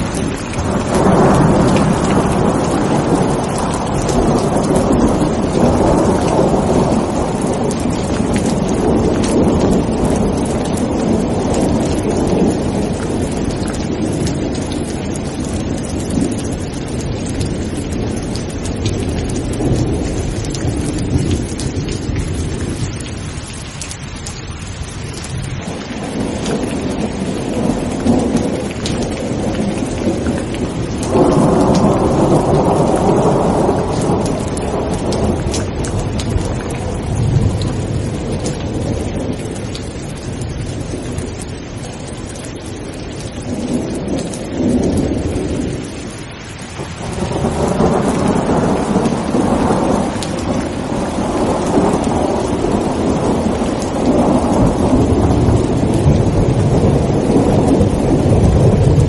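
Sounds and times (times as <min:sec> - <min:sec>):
rolling thunder: 0:00.0 - 0:24.0, 0:24.8 - 0:59.0
heavy rain: 0:00.0 - 0:59.0.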